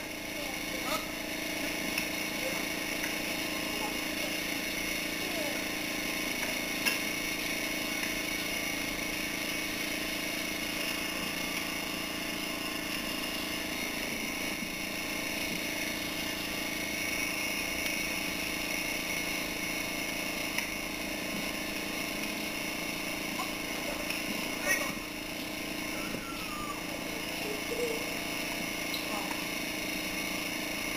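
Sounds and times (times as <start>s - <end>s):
mechanical hum with hiss: 0.0s - 30.9s.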